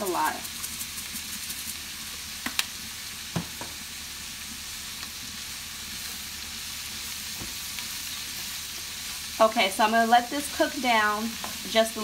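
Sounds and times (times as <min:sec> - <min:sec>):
cabbage sizzling in a frying pan: 0:00.0 - 0:12.0.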